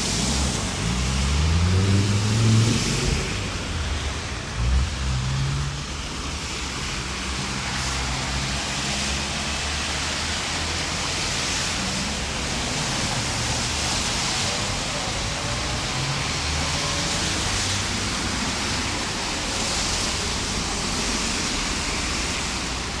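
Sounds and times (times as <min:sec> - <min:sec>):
floodwater rushing: 0:00.0 - 0:23.0
vehicle engine hum: 0:00.0 - 0:23.0.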